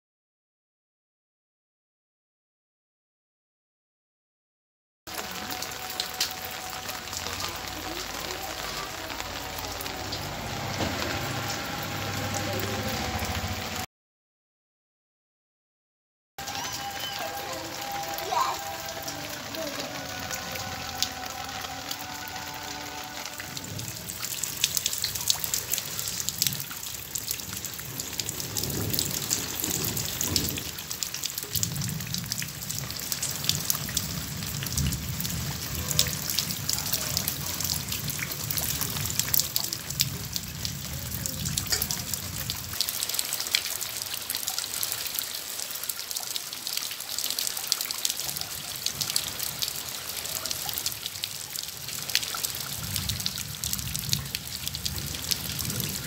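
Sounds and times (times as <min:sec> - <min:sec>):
heavy rain on leaves and water: 0:05.1 - 0:13.9, 0:16.4 - 0:56.0.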